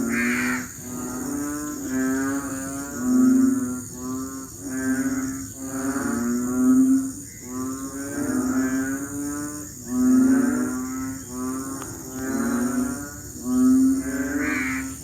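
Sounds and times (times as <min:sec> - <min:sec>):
frogs giving low mooing calls: 0:00.0 - 0:15.0
steady high-pitched hiss: 0:00.0 - 0:15.0.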